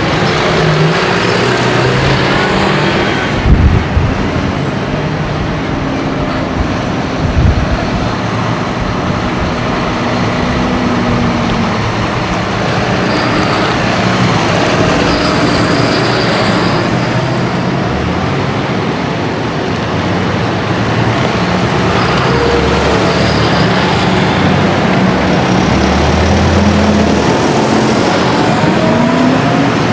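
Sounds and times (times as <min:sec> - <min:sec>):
tractor diesel engines running: 0:00.0 - 0:29.9.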